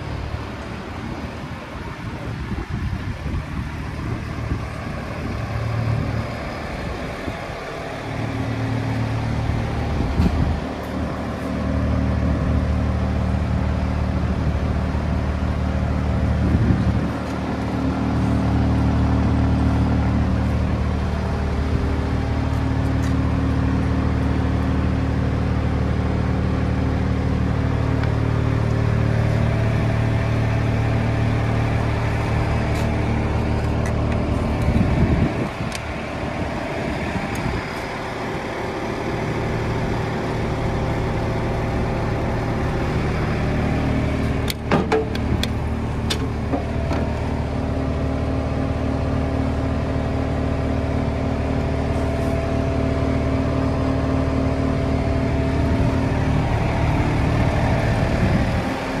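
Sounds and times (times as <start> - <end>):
drilling rig engine idling: 0.0 - 59.0.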